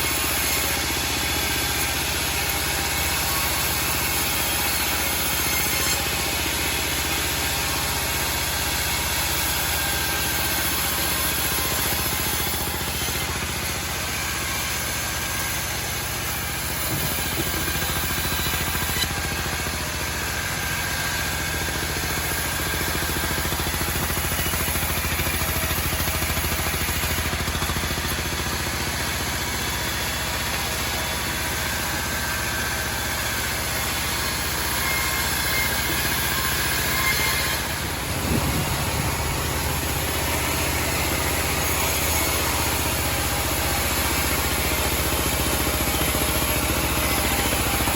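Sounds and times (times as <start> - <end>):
sawmill engine drone: 0.0 - 47.9.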